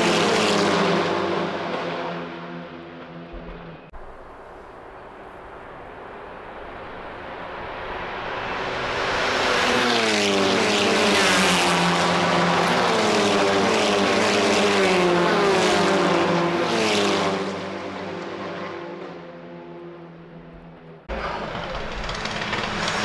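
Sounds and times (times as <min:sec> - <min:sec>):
race car engine passing: 0:00.0 - 0:03.9, 0:06.6 - 0:20.4, 0:21.1 - 0:23.0.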